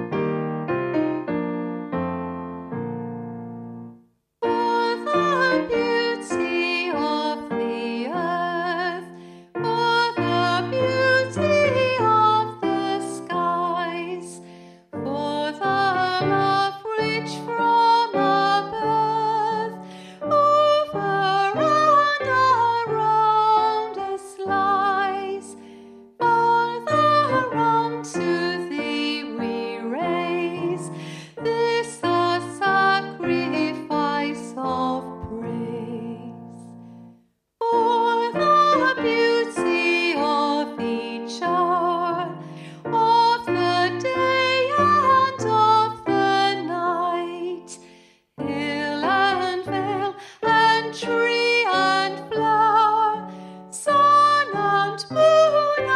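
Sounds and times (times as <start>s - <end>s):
woman singing with vibrato: 4.4s - 14.4s, 15.0s - 25.6s, 26.2s - 36.5s, 37.6s - 47.8s, 48.4s - 55.9s.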